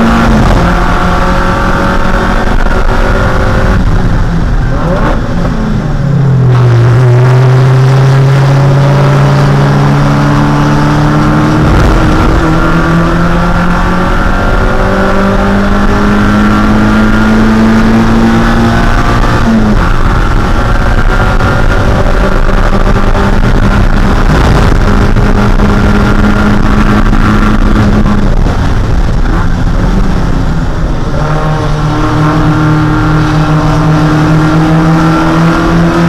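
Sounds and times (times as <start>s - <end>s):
race car engine at high revs: 0.0s - 36.0s.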